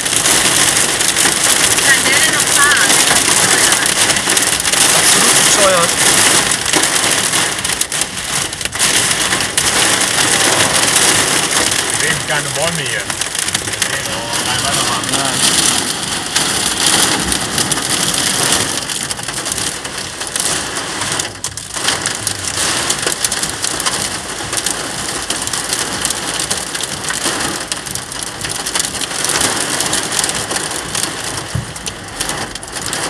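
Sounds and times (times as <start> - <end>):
rain pelting car roof: 0.0 - 33.0.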